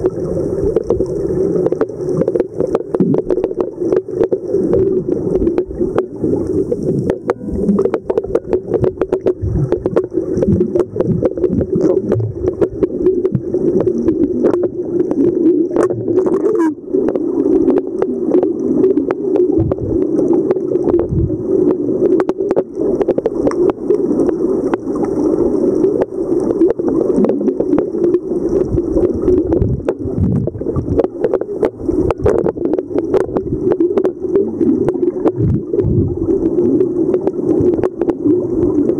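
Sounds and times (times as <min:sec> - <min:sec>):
sharp clicks and crackles: 0:00.0 - 0:38.9
steady low underwater hum: 0:00.0 - 0:38.9.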